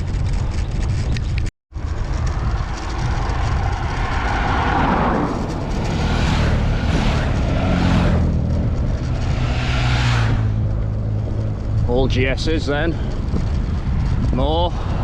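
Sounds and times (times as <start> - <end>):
wind rumble on microphone: 0.0 - 15.0
motorcycles passing: 1.8 - 15.0.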